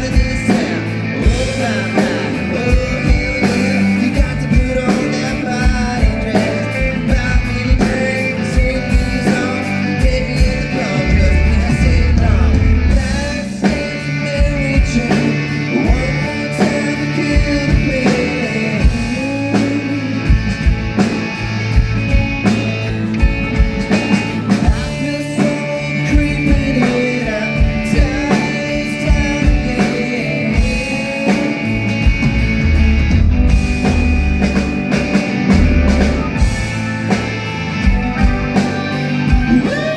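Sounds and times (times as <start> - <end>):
drum kit beat: 0.0 - 39.9
live pop-rock band: 0.0 - 39.9
person singing: 0.0 - 39.9.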